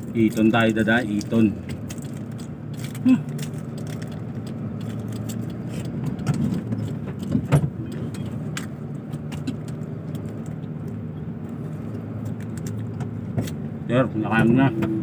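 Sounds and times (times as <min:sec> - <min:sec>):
rattles and clicks in cab: 0:00.0 - 0:15.0
truck engine running: 0:00.0 - 0:15.0.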